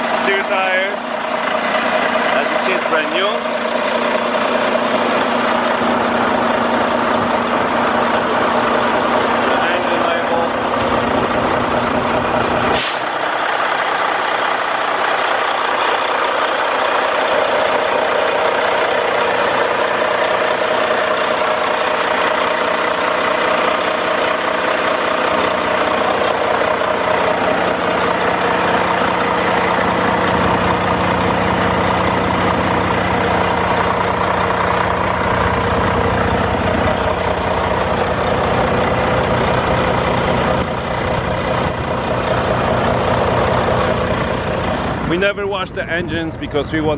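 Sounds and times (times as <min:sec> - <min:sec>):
truck diesel engine idling: 0:00.0 - 0:46.9.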